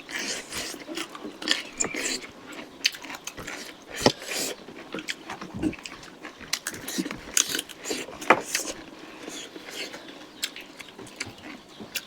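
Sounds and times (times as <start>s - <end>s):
chewing and biting: 0.0s - 12.0s.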